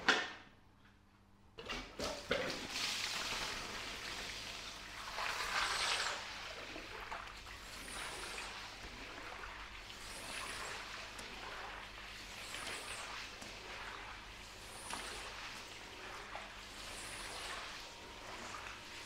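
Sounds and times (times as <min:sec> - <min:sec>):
water spraying on rug: 0:02.5 - 0:19.0.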